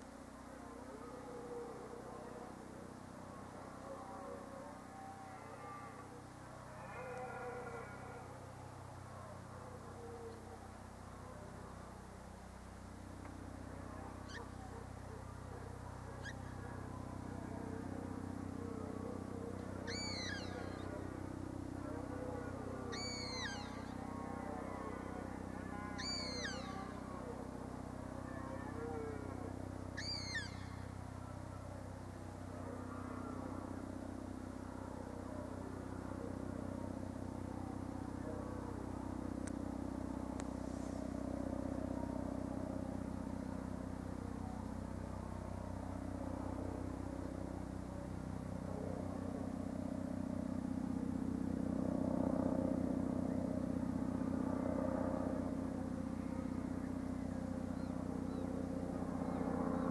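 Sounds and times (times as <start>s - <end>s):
distant helicopter droning: 0.0s - 59.9s.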